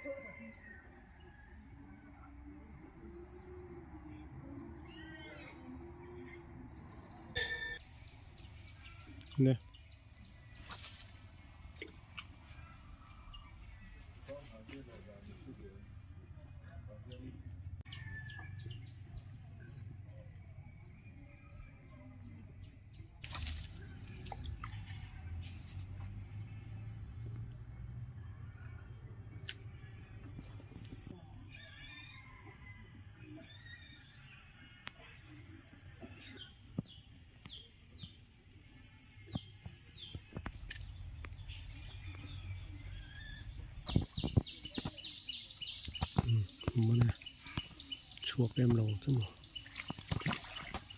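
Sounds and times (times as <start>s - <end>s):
birds chirping: 1.1s - 50.9s.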